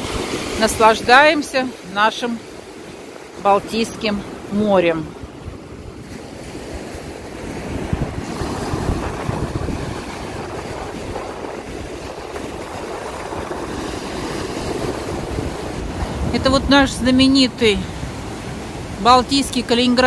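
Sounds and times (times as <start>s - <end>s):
surf breaking on sandy beach: 0.0s - 20.0s
wind buffeting microphone: 2.5s - 20.0s.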